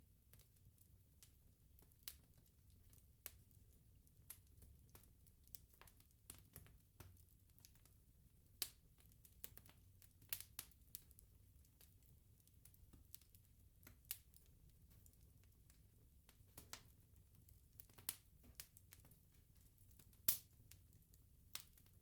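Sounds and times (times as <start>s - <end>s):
bonfire crackling and popping: 0.3s - 22.0s.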